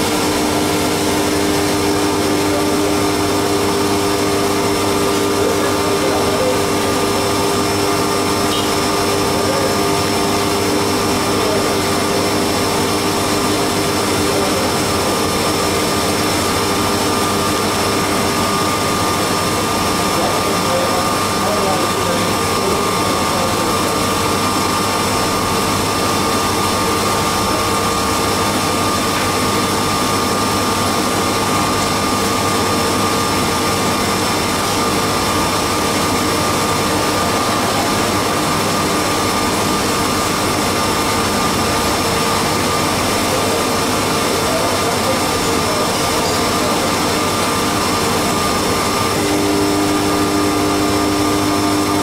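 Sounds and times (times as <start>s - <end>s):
milling machine whine: 0.0s - 52.0s.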